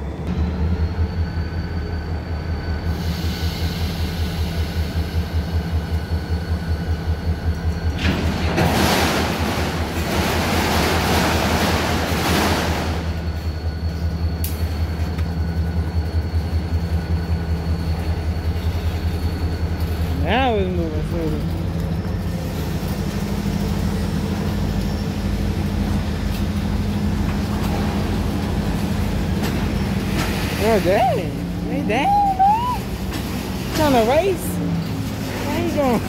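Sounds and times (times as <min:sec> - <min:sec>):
freight train rumbling past: 0:00.0 - 0:36.0.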